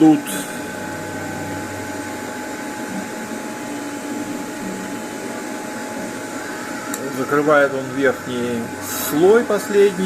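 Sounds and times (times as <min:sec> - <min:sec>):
printer fans humming: 0:00.0 - 0:10.0.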